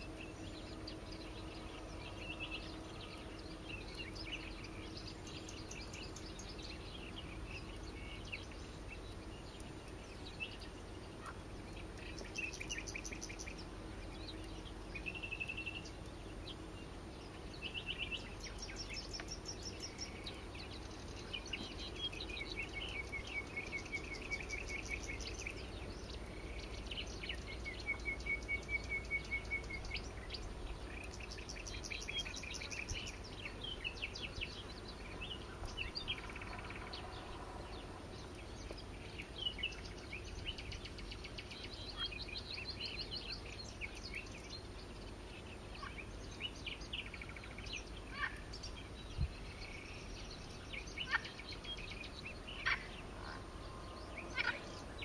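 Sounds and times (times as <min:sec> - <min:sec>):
low background hum: 0:00.0 - 0:55.0
small birds chirping and trilling: 0:00.0 - 0:55.0.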